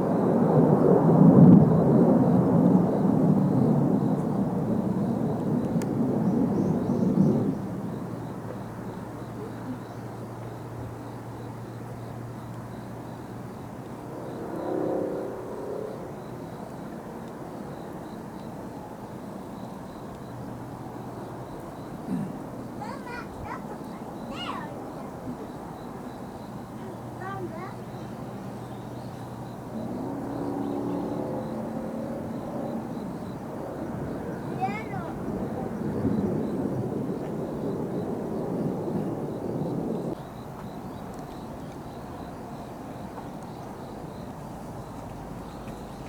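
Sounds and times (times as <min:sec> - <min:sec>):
jet engine rumble: 0:00.0 - 0:18.1, 0:19.9 - 0:46.0.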